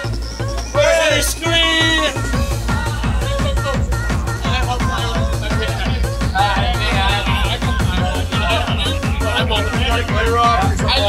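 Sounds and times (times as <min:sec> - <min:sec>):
techno kick drum: 0:00.0 - 0:11.0.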